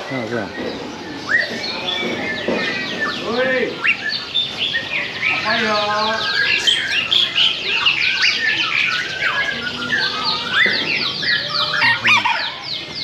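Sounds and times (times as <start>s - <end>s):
caged birds chirping and squawking: 0.0s - 13.0s.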